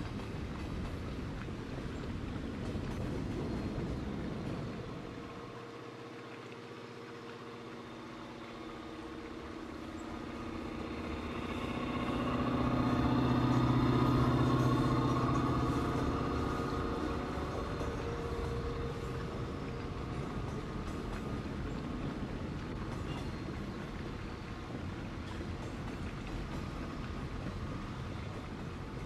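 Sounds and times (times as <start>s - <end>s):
diesel locomotive engines running: 0.0s - 29.0s
freight train passing: 0.0s - 29.0s.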